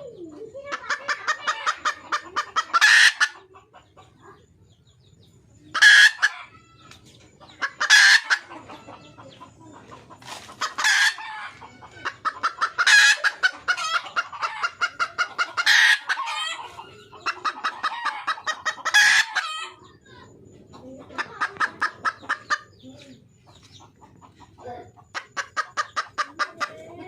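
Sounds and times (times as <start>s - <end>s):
hen clucking: 0.0s - 27.0s.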